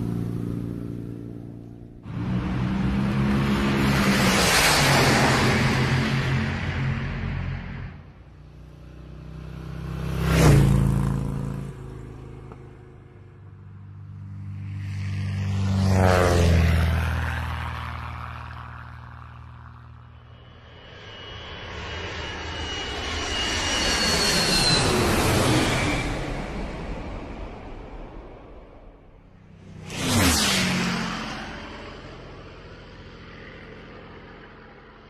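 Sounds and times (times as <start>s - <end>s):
engine passing by: 0.0s - 35.0s.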